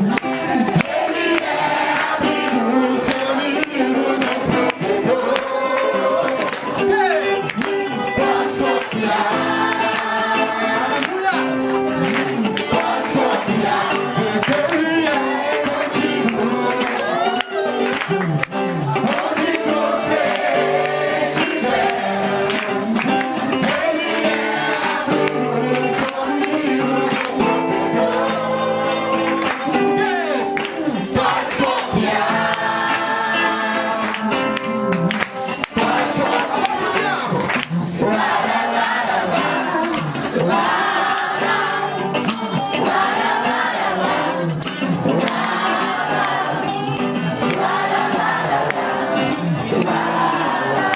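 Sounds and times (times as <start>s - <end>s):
congregation singing with band: 0.0s - 50.9s
tambourine shaking: 4.2s - 50.9s.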